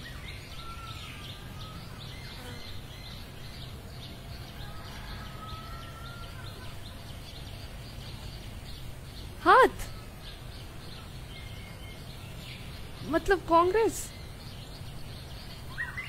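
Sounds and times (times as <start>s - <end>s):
low background hiss: 0.0s - 16.0s
small birds chirping: 0.0s - 16.0s.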